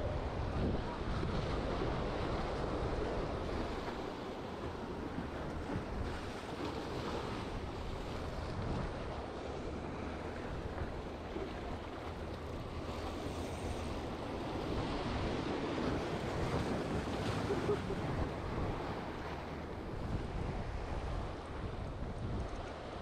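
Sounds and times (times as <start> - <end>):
wind on microphone: 0.0 - 23.0
waves washing against boulders: 0.5 - 22.4.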